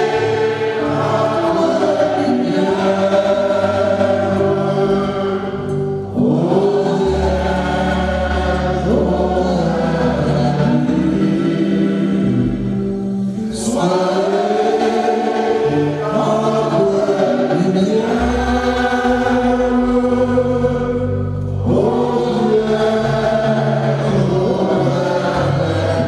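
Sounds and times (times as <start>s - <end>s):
congregation singing a hymn: 0.0s - 26.0s
electronic keyboard low notes: 0.0s - 26.0s.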